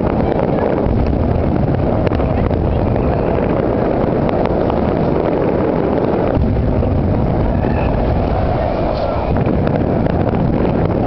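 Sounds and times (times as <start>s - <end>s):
fireworks rumble: 0.0s - 11.0s.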